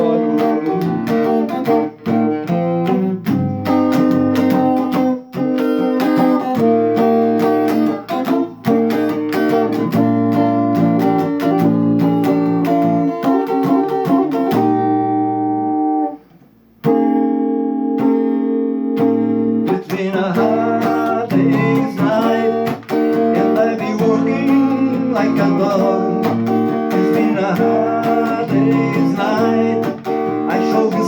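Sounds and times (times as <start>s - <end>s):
guitar strumming chords: 0.0s - 31.0s.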